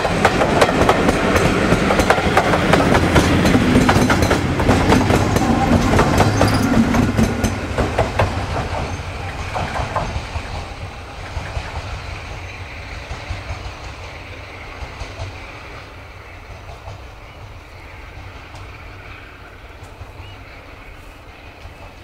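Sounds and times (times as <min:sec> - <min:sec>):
diesel locomotive engine drone: 0:00.0 - 0:22.0
train wheels rattling: 0:00.0 - 0:22.0.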